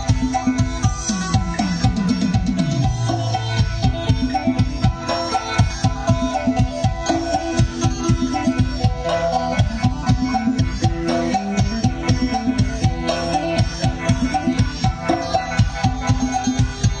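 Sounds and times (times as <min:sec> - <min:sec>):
folk dance music with drum beat: 0:00.0 - 0:17.0.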